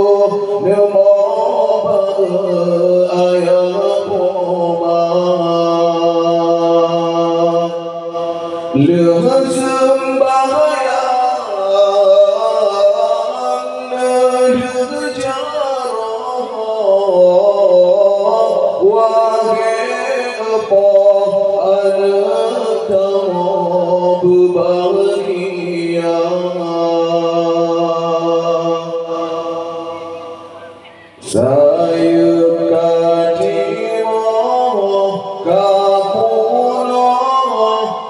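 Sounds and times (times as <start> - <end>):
man singing into a microphone: 0.0 - 38.0.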